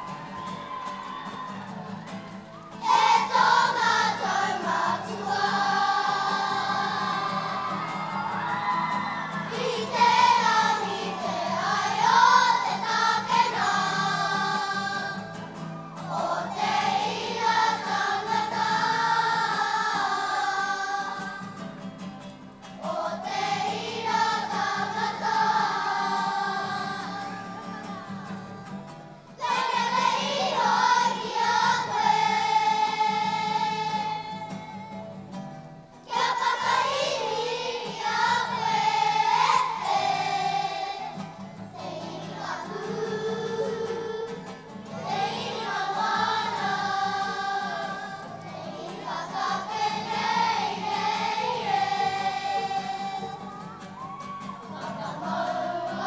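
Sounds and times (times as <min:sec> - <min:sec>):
children's choir singing: 0:00.0 - 0:22.0, 0:22.6 - 0:56.0.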